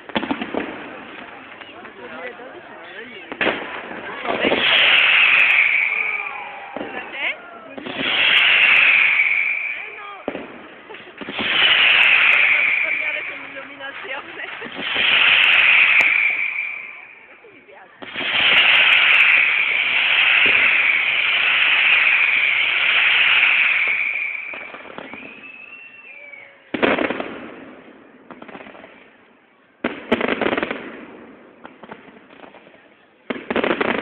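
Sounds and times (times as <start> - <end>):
firework whistling rush: 0.0 - 29.2
firework bangs: 0.0 - 34.0
firework crackling: 0.0 - 34.0.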